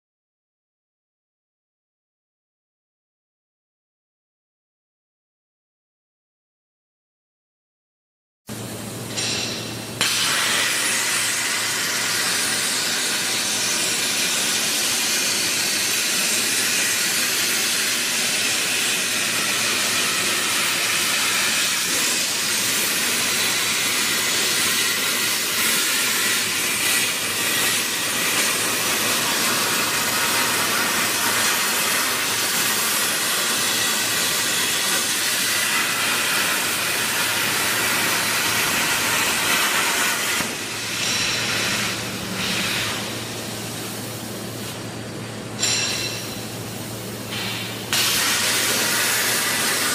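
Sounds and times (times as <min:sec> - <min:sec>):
plasma torch hissing: 0:09.2 - 0:44.9, 0:45.6 - 0:49.9.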